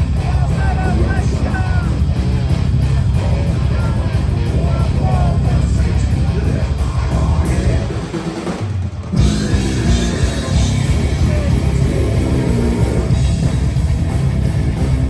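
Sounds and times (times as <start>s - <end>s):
live heavy rock band playing: 0.0s - 15.0s.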